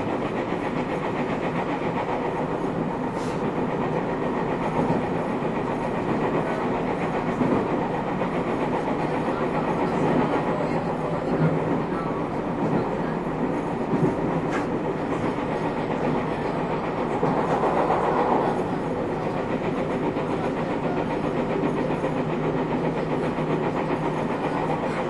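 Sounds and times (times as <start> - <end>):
train rolling and motor noise: 0.0 - 25.0
wheel clatter on rail joints: 0.0 - 25.0.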